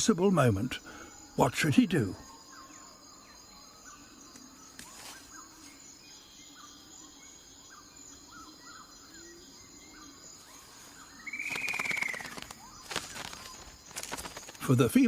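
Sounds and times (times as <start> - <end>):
high insect drone: 0.0 - 15.0
faint bird chirps: 0.6 - 15.0.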